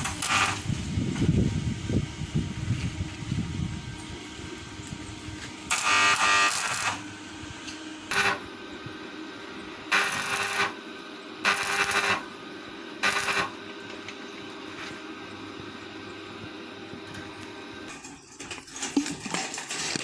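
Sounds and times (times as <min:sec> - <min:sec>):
power tool whirring: 0:00.0 - 0:18.0.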